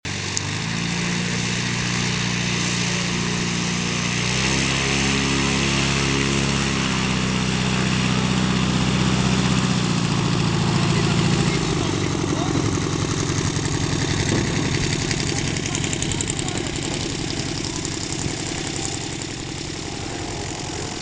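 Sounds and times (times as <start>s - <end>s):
small aircraft engine running: 0.0s - 21.0s.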